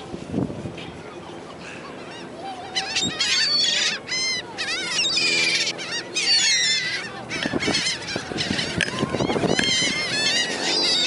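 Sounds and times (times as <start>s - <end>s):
gulls squawking: 1.1s - 11.0s.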